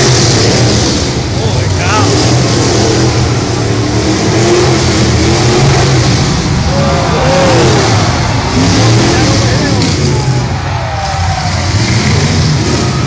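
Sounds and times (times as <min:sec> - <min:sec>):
engines revving hard: 0:00.0 - 0:13.0.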